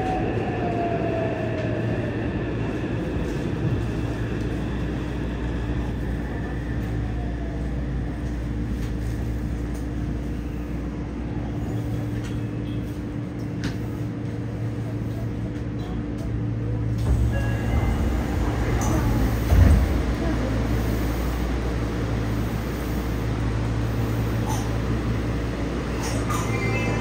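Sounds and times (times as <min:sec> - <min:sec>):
electrical hum in subway car: 0:00.0 - 0:27.0.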